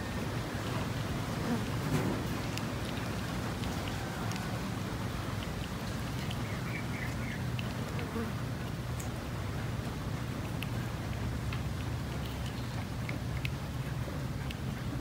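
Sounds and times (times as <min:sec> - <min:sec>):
cat chewing food: 0:00.0 - 0:15.0.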